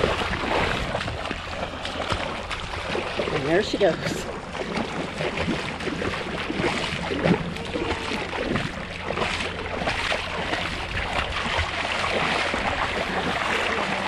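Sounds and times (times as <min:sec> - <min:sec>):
shallow sea water sloshing: 0:00.0 - 0:14.0
small water splashes: 0:00.0 - 0:14.0.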